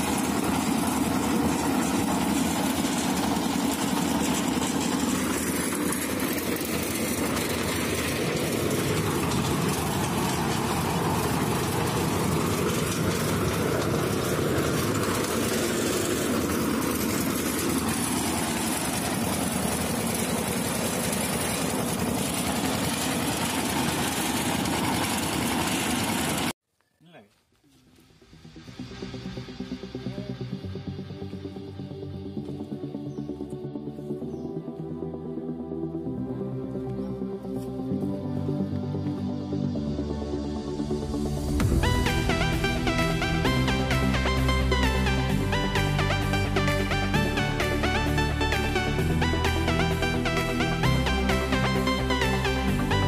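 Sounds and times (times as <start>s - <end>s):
small engine running: 0.0s - 26.6s, 28.0s - 53.0s.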